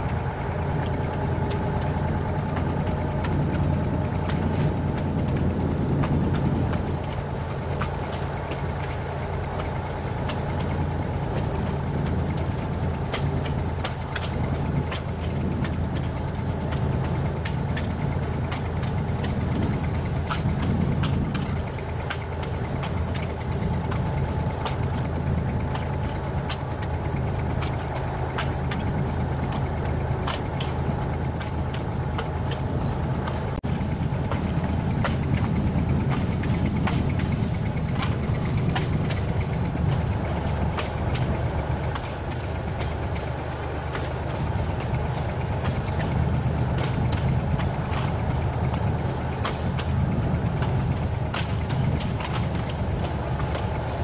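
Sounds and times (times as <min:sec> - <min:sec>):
train engine hum: 0:00.0 - 0:54.0
wheels clicking on rails: 0:00.0 - 0:54.0.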